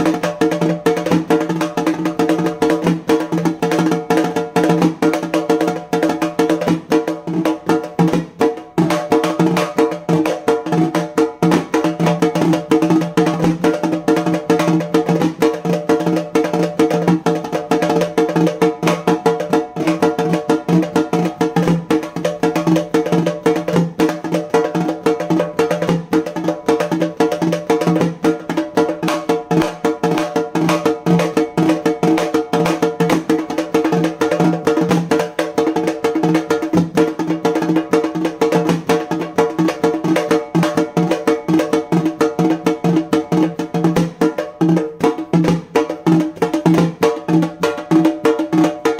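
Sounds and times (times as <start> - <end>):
frame drum played fast with sticks: 0.0 - 48.9.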